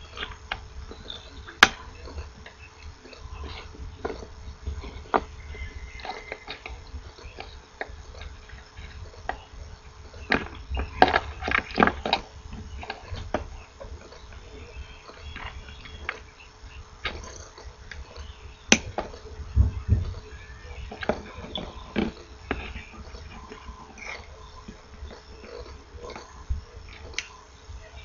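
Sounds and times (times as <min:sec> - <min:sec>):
low handling rumble: 0:00.0 - 0:28.0.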